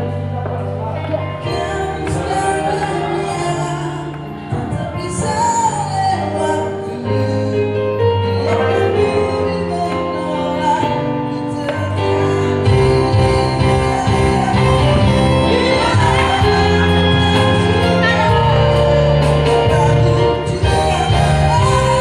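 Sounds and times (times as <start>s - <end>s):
live band playing: 0.0s - 22.0s
person singing: 0.0s - 22.0s.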